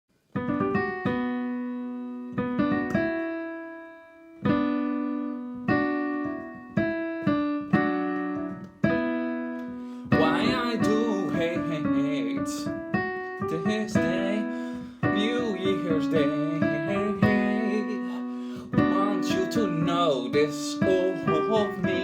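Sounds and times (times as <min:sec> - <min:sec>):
piano chords ringing: 0:00.3 - 0:22.0.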